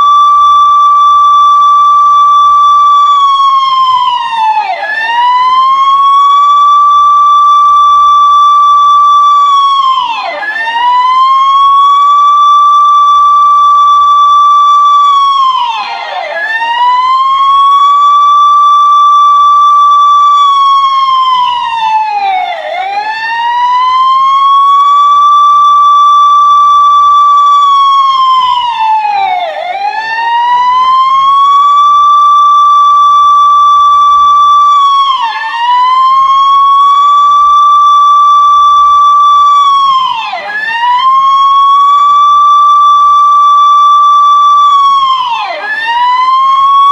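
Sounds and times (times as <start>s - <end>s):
police siren wailing: 0.0s - 46.9s.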